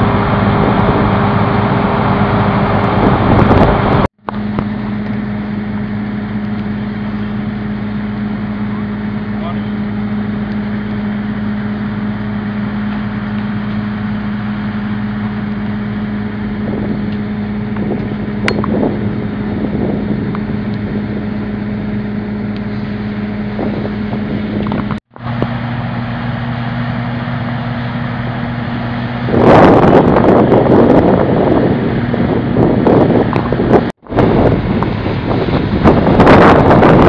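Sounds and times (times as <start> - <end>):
fire engine pump drone: 0.0 - 37.0.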